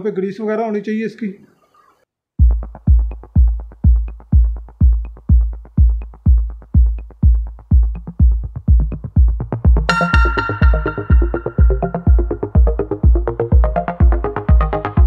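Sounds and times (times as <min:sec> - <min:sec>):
electronic drum-machine beat: 0:02.4 - 0:15.0.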